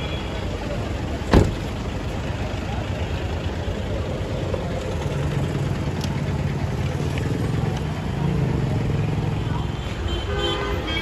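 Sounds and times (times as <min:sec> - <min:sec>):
vehicle engine idling: 0:00.0 - 0:09.8
street traffic noise: 0:00.0 - 0:11.0.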